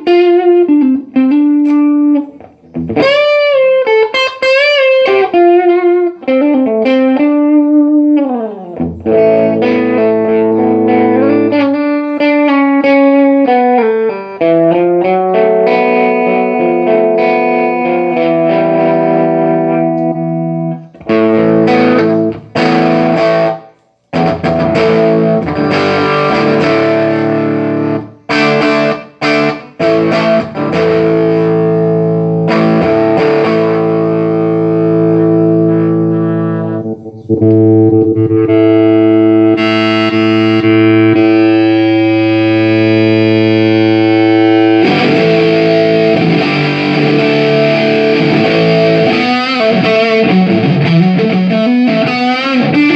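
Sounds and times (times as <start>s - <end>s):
distorted electric guitar chords: 0.0s - 52.9s
electric guitar sustained notes: 0.0s - 52.9s.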